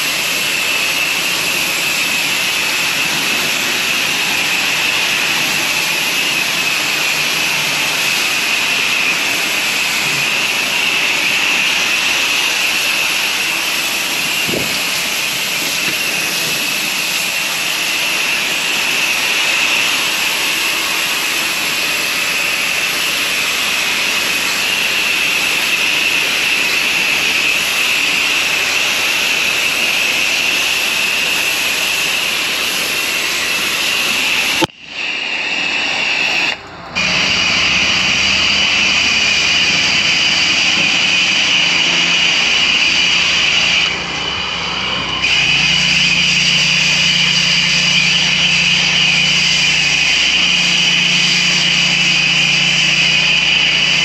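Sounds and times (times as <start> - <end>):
pressure washer spray hiss: 0.0 - 44.0, 45.2 - 54.0.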